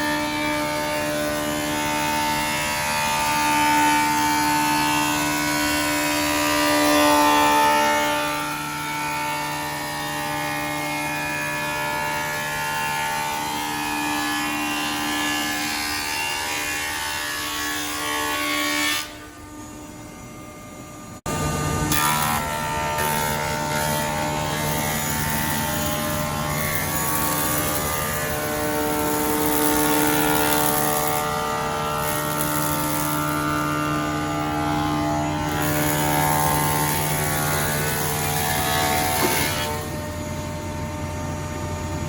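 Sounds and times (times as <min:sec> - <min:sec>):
planer motor hum and whine: 0:00.0 - 0:42.0.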